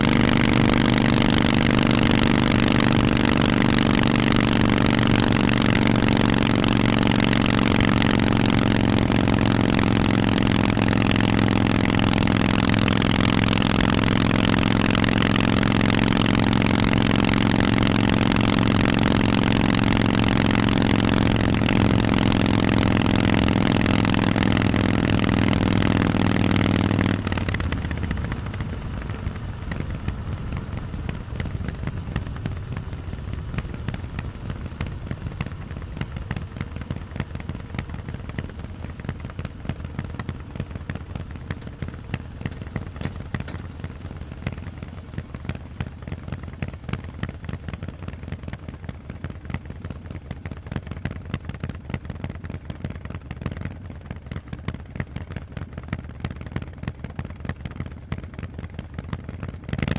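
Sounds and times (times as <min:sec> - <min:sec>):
exhaust crackle and rumble: 0:00.0 - 0:59.9
motorcycle engine running: 0:00.0 - 0:59.9.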